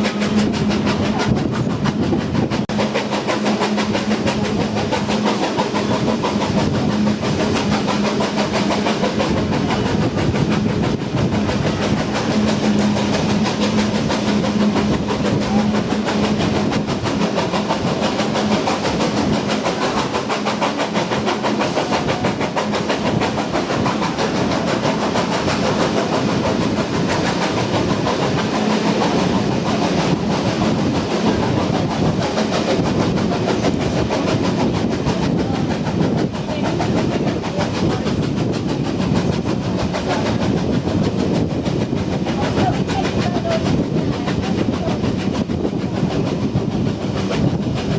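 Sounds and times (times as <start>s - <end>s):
train wheels rumbling on track: 0.0s - 47.9s.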